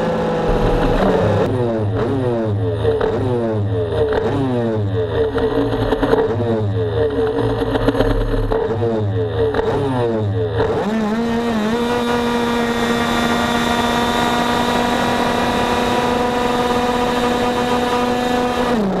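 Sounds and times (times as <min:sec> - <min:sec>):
scooter engine at full throttle: 0:00.0 - 0:19.0.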